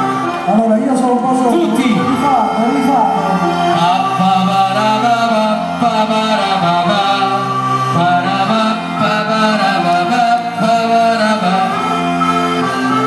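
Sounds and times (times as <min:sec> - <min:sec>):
crowd singing along: 0:00.0 - 0:13.0
live folk-rock band playing: 0:00.0 - 0:13.0.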